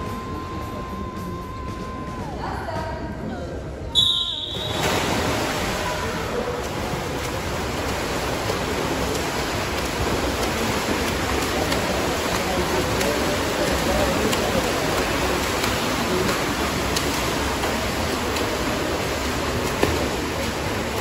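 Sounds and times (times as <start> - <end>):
swimmers splashing water: 0.0 - 2.4, 4.0 - 21.0
faint voices: 0.0 - 4.0, 4.7 - 21.0.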